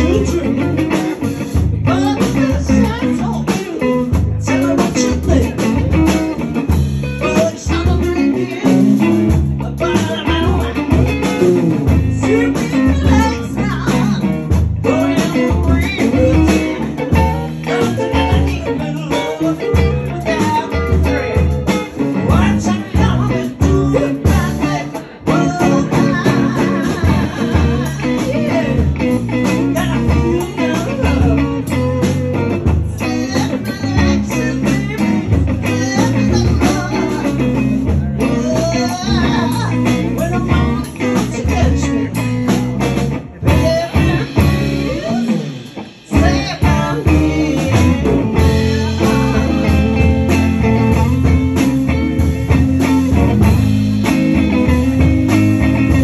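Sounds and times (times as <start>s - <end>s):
live band with electric guitars: 0.0s - 56.0s.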